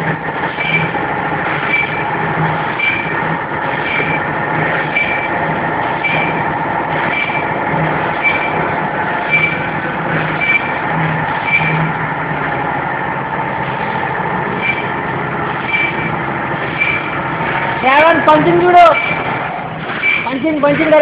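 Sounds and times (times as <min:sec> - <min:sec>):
bag making machine running: 0:00.0 - 0:21.0.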